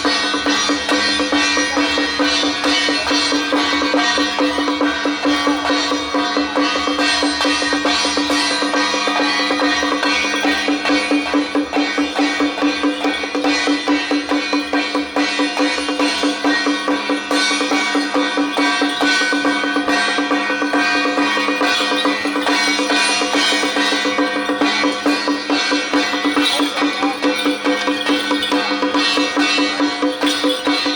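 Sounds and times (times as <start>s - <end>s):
drums and percussion beating: 0.0s - 30.9s.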